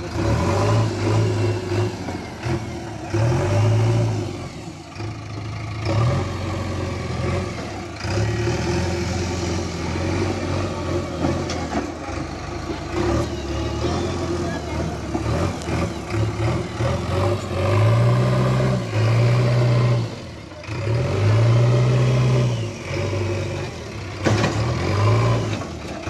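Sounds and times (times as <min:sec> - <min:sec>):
diesel engine revving under load: 0:00.0 - 0:26.0.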